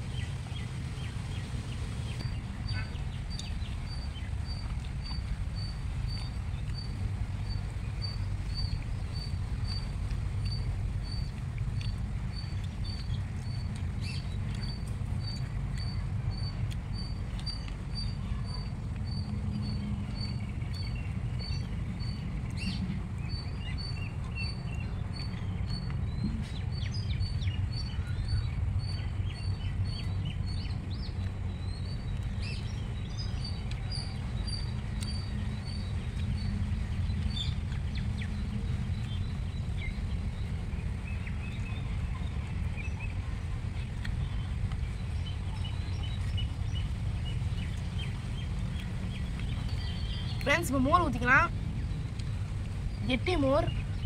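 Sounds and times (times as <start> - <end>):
birds chirping: 0.0 - 54.0
steady low rumble: 0.0 - 54.0.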